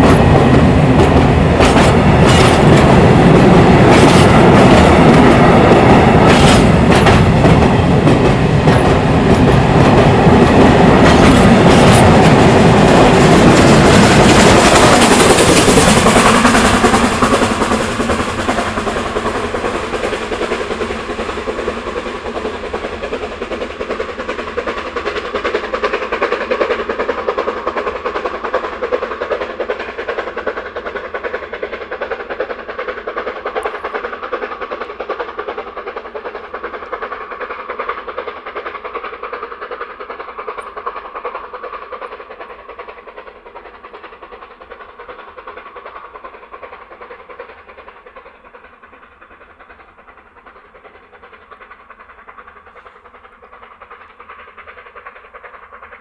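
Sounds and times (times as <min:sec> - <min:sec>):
train wheels clicking over rails: 0:00.0 - 0:56.0.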